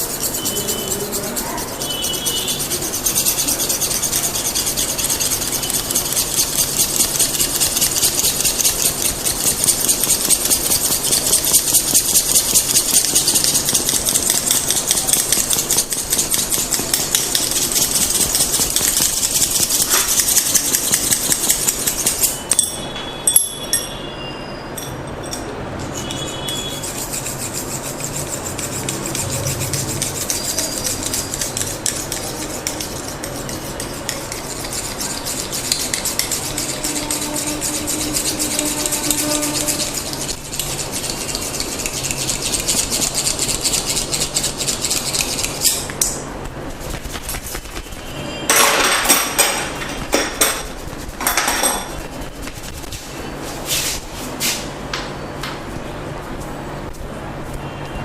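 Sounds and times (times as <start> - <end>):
rhythmic rubbing on skin: 0.0 - 22.5, 26.2 - 48.3, 49.4 - 54.2.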